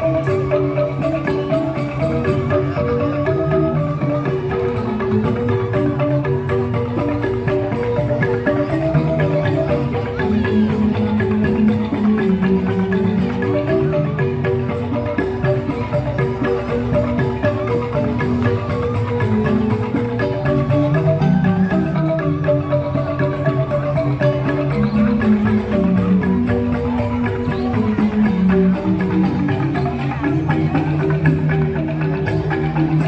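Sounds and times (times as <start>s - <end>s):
bamboo xylophones playing: 0.0s - 33.0s.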